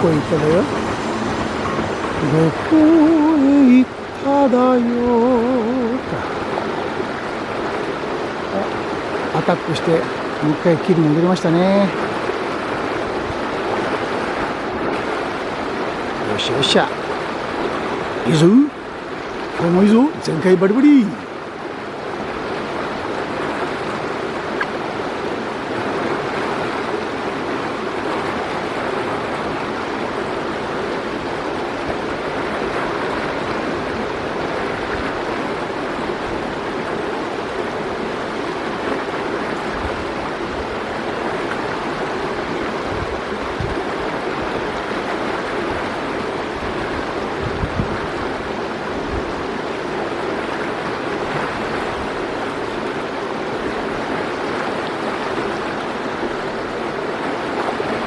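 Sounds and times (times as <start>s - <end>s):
water rushing in channel: 0.0s - 58.0s.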